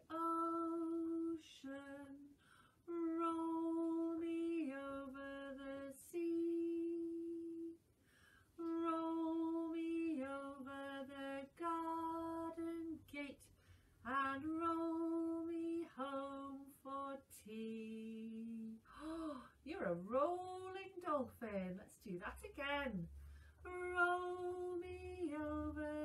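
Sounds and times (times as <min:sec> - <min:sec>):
woman singing unaccompanied: 0:00.0 - 0:07.8, 0:08.6 - 0:26.0.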